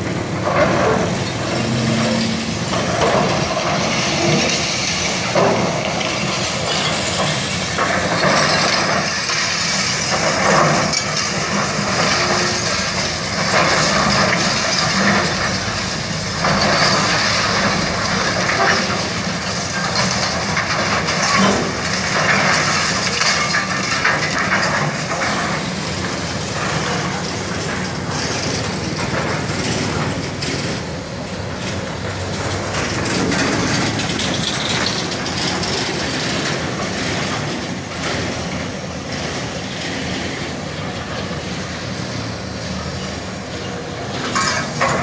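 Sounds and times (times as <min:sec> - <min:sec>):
concrete rubble crashing and scraping: 0:00.0 - 0:39.7, 0:44.0 - 0:45.0
excavator diesel engine running: 0:00.0 - 0:45.0.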